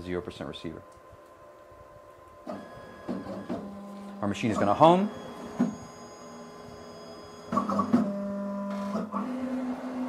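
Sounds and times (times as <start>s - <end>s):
motor whine: 1.3s - 10.0s.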